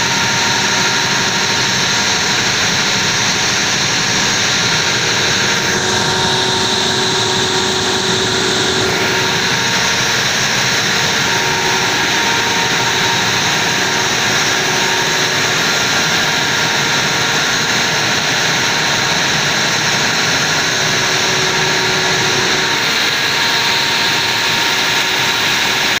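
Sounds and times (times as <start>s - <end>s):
diesel generator running: 0.0s - 26.0s.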